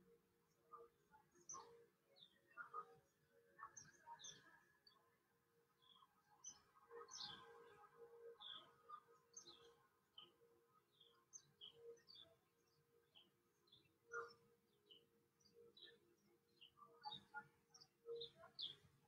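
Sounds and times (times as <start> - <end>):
faint small birds chirping: 0.0 - 19.0.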